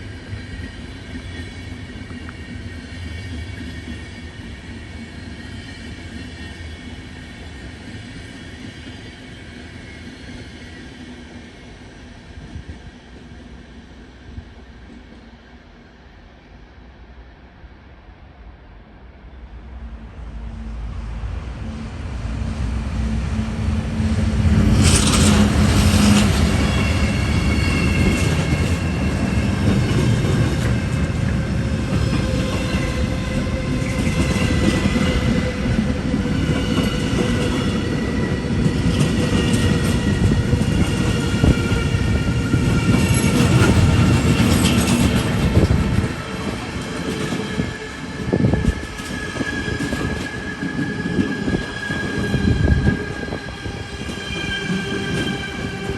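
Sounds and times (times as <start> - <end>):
train rumbling on rails: 0.0 - 55.9.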